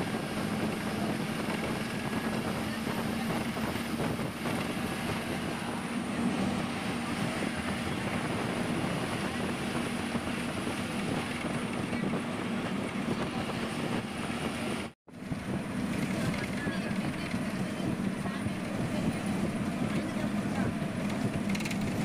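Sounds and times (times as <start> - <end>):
bus engine hum: 0.0 - 22.0
road noise: 0.0 - 22.0.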